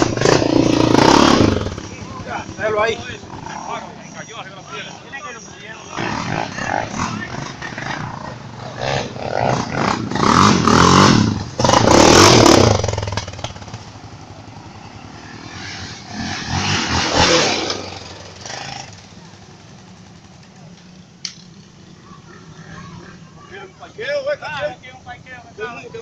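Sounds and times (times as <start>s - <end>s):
motocross motorcycles revving past: 0.0s - 26.0s.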